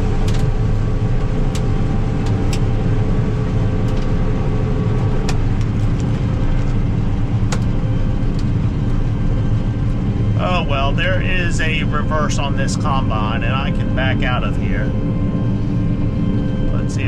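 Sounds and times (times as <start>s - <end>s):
combine harvester running: 0.0s - 17.0s
steady higher hum: 0.0s - 17.0s.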